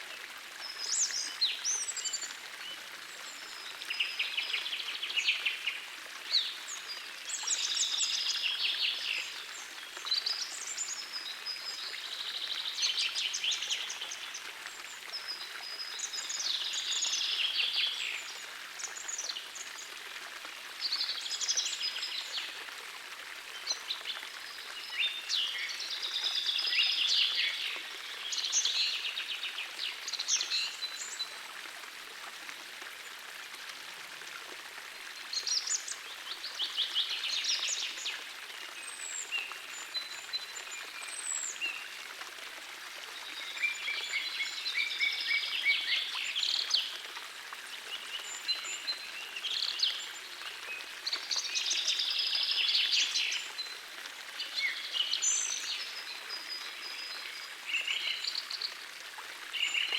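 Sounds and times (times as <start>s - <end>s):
forest stream rushing: 0.0s - 59.9s.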